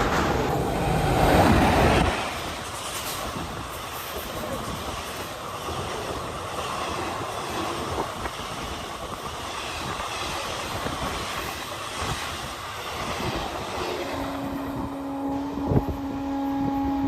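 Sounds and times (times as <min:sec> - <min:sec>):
train wheels on track: 0:00.0 - 0:17.0.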